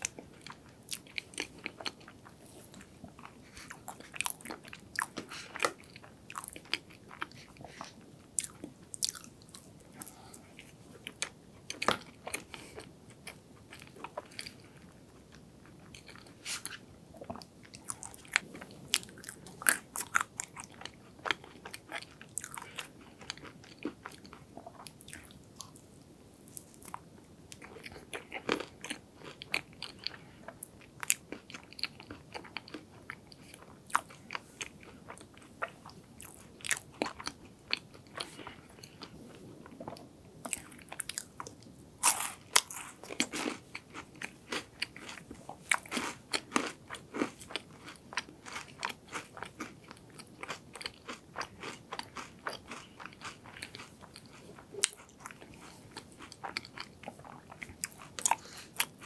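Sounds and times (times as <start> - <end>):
chewing with crunches: 0.0 - 59.0.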